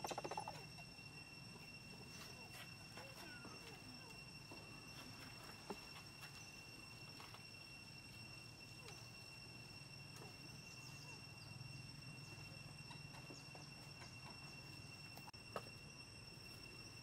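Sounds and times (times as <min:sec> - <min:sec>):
insect trilling: 0:00.0 - 0:17.0.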